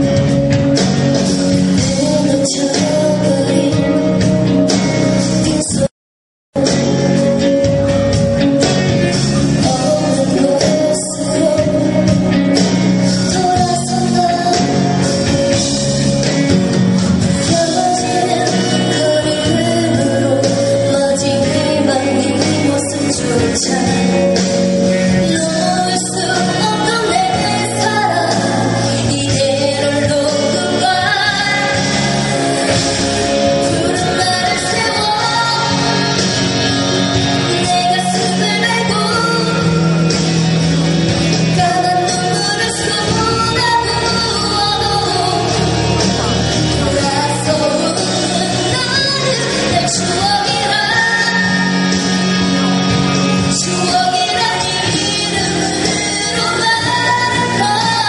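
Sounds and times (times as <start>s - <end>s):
live band with guitar: 0.0s - 5.9s, 6.6s - 58.0s
pop backing music: 0.0s - 5.9s, 6.6s - 58.0s
woman singing: 1.3s - 5.9s, 9.4s - 40.2s, 41.2s - 58.0s.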